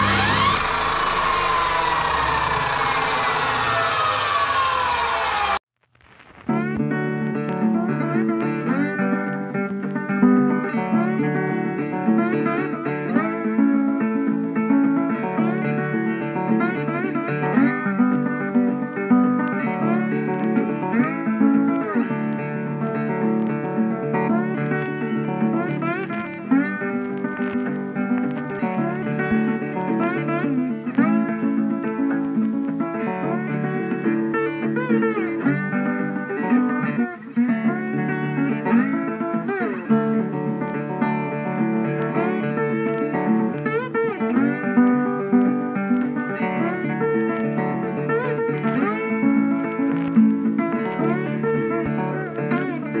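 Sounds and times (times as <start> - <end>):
guitar plucked and strummed: 0.0 - 5.6, 6.2 - 53.0.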